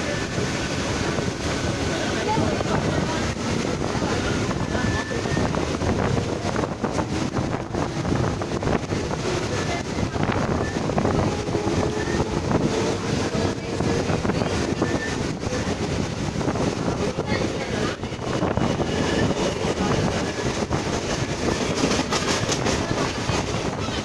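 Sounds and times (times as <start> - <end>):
train wheels rumbling on rails: 0.0 - 24.0
wind buffeting microphone: 0.0 - 24.0.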